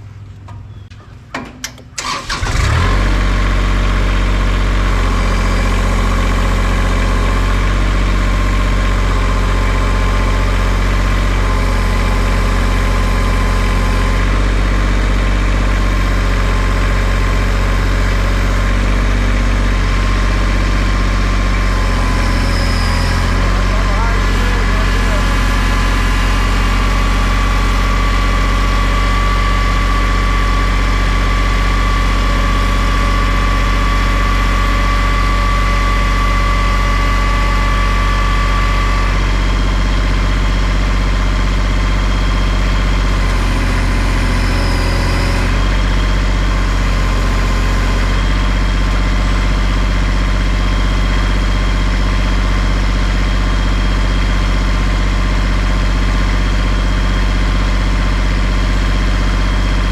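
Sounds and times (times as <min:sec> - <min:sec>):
heavy engine idling: 0:00.0 - 0:59.9.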